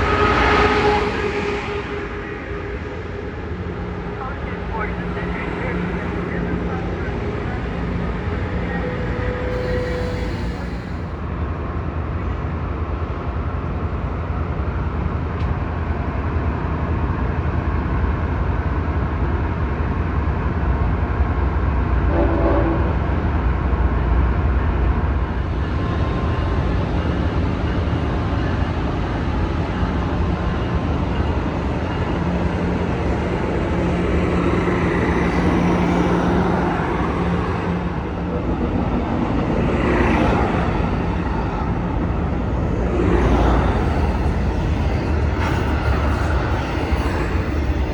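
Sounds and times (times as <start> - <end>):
train rumbling past: 0.0 - 47.9.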